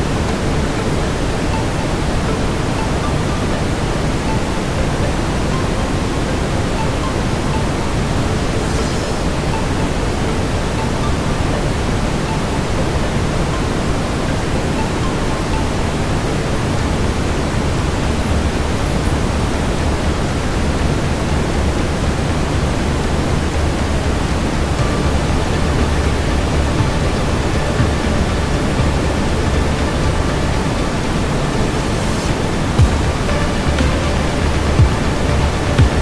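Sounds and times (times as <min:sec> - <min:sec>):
brown noise hiss: 0:00.0 - 0:36.0.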